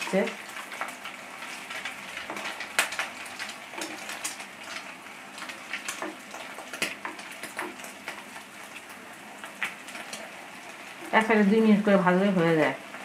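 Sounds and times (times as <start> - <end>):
food sizzling in oil: 0.0 - 13.0
spatula turning food in pan: 0.0 - 13.0.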